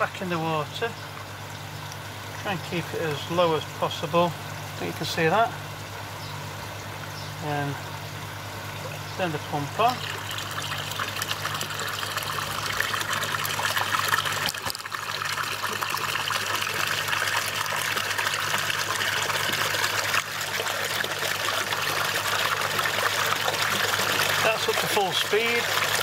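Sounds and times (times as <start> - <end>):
pump humming: 0.0 - 26.0
water splashing onto pond: 0.0 - 26.0.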